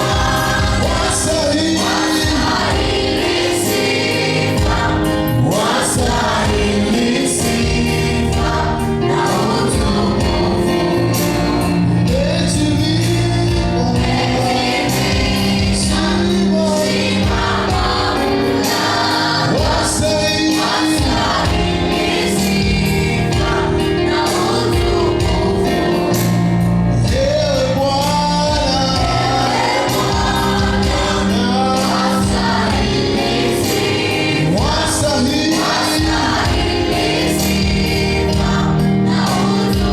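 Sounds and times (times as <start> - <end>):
choir singing gospel: 0.0 - 39.9
musical accompaniment: 0.0 - 39.9.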